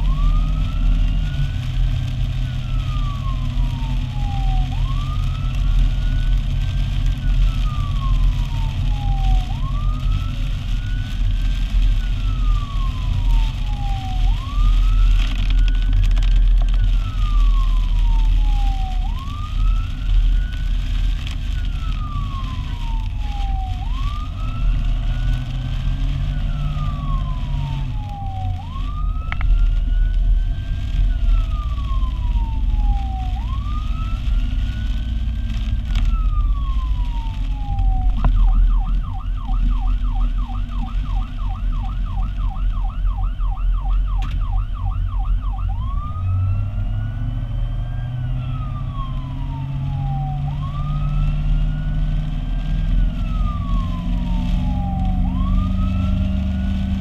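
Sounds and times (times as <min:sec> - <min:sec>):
fire truck siren wailing and yelping: 0:00.0 - 0:57.0.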